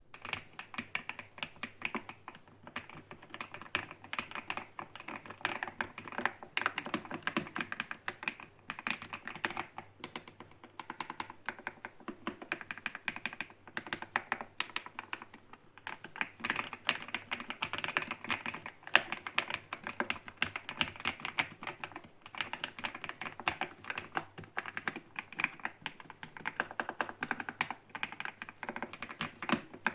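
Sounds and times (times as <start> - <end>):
mechanical keyboard typing: 0.1 - 29.9.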